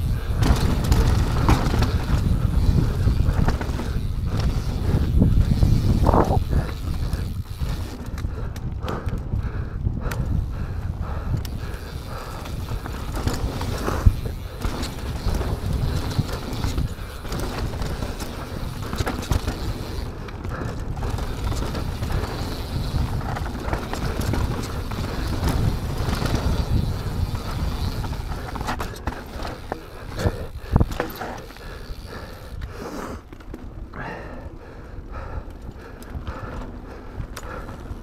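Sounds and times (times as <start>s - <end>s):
bike rattling over bumps: 0.0s - 38.0s
bike tyres on dirt: 0.0s - 38.0s.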